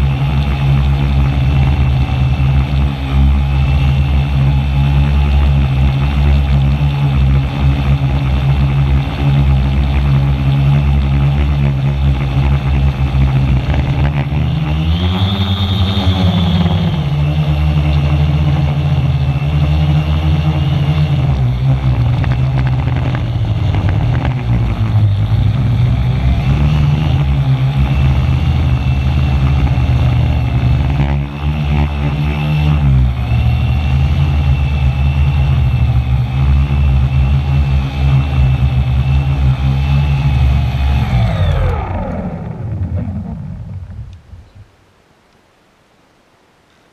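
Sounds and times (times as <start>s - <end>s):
drone motors whining and buzzing: 0.0s - 44.2s.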